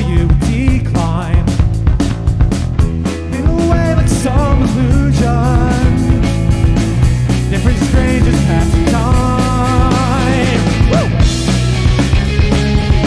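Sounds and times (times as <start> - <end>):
drums keeping a steady beat: 0.0 - 13.0
live rock band playing: 0.0 - 13.0.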